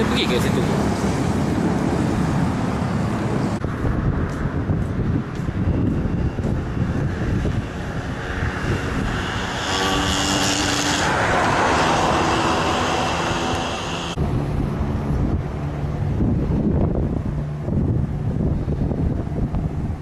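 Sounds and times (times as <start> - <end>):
passing engine: 0.0 - 20.0
wind buffeting microphone: 0.0 - 20.0.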